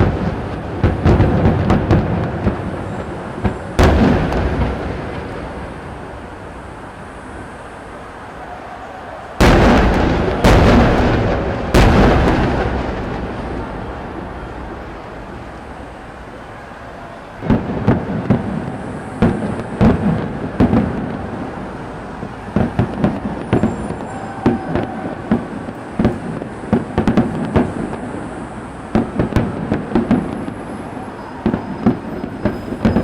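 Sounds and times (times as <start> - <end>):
firework shells booming: 0.0 - 7.2, 9.4 - 33.0
rapid small firework bangs: 0.0 - 7.2, 9.4 - 33.0.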